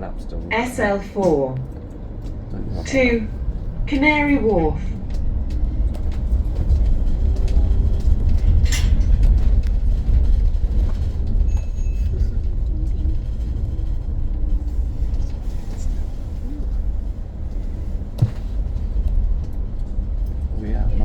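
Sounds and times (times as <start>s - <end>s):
bus road rumble: 0.0s - 21.0s.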